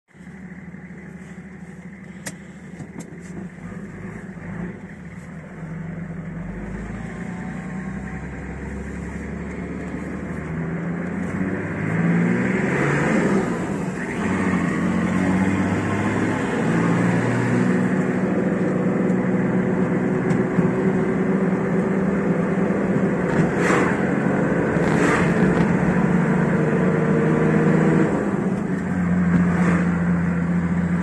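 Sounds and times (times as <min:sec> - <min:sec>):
diesel engine accelerating: 0:00.1 - 0:31.0.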